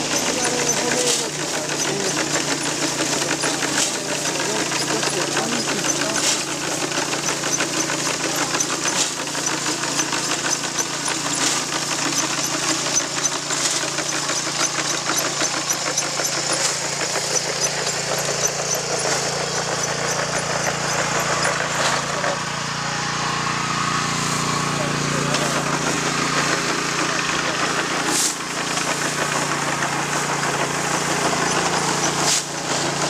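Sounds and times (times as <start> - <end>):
small engine running: 0.0 - 33.0.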